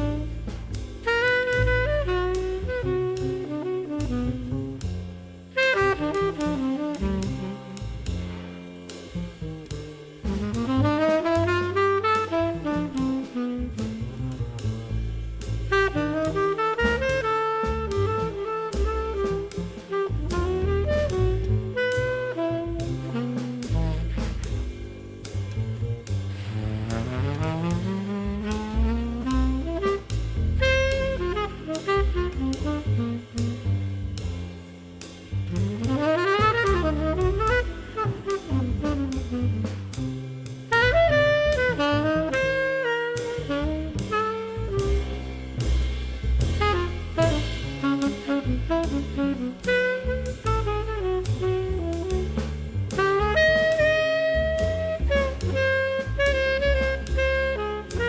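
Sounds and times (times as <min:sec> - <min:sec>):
jazz music with saxophone: 0:00.0 - 0:58.0.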